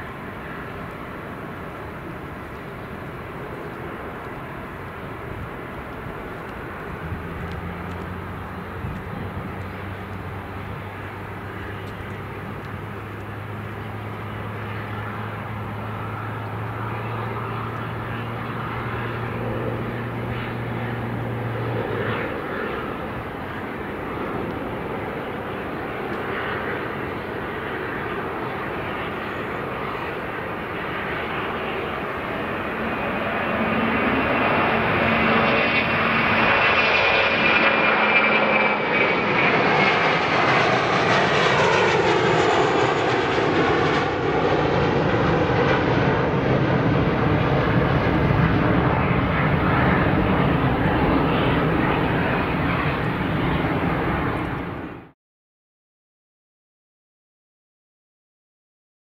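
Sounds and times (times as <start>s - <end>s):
jet engines whining: 0.0s - 55.2s.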